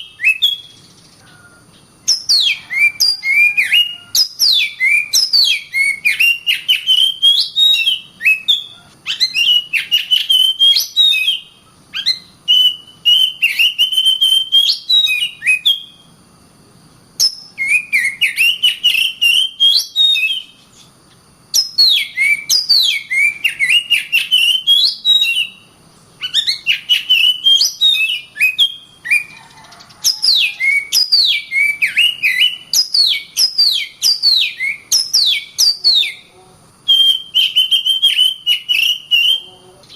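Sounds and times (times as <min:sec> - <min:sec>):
bird singing whistled notes: 0:00.0 - 0:16.1, 0:17.2 - 0:20.9, 0:21.5 - 0:39.9.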